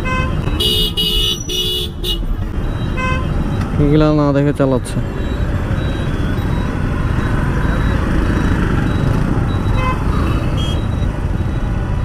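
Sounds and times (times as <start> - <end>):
horn beeps: 0.0 - 4.0, 5.0 - 12.0.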